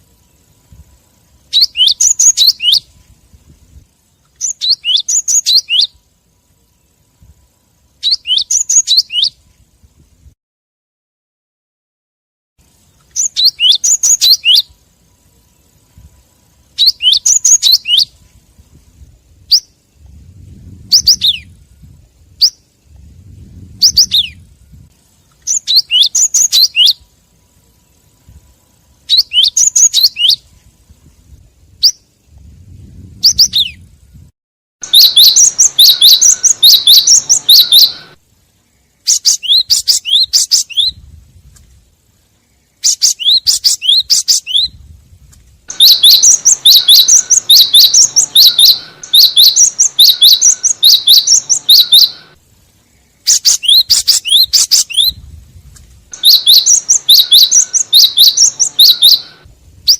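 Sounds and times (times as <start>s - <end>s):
bird chirping: 0.0s - 9.6s, 12.6s - 30.7s, 31.7s - 41.0s, 42.1s - 44.8s, 45.7s - 59.9s.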